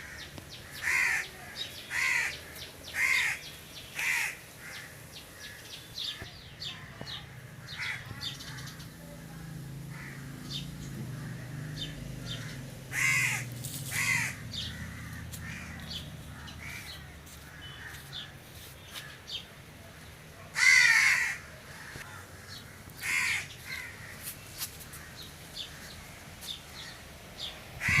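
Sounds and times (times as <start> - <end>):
crows cawing: 0.0 - 6.2, 7.5 - 8.8, 9.9 - 18.3, 20.5 - 27.0, 27.8 - 28.0.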